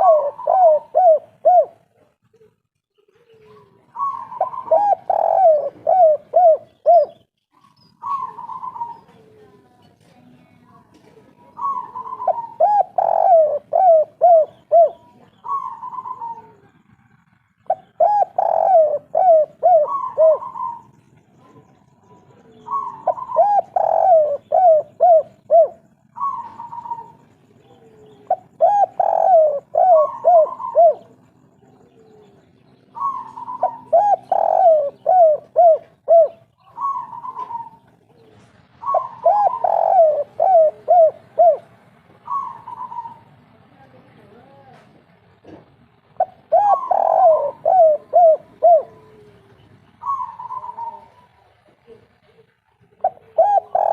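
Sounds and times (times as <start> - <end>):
dove cooing: 0.0 - 9.8, 10.7 - 43.5, 45.5 - 53.9.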